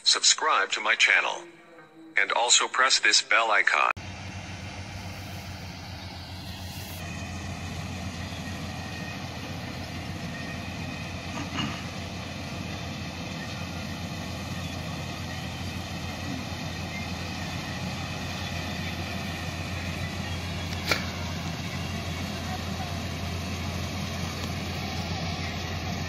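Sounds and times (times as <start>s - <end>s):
combine harvester engine drone: 3.7s - 26.0s.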